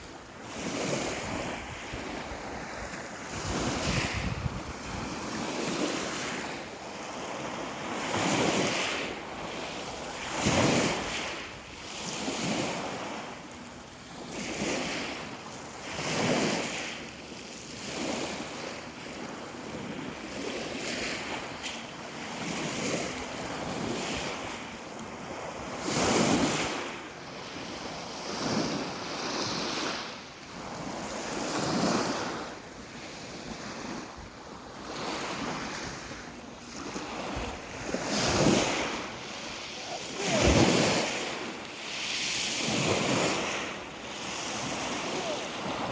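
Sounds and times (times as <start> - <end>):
sea waves washing on shore: 0.0 - 45.9.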